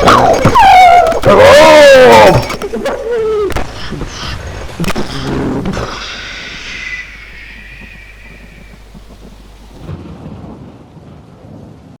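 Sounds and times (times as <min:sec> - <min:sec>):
high whine: 0:00.0 - 0:09.9
low rumbling noise: 0:00.0 - 0:10.0.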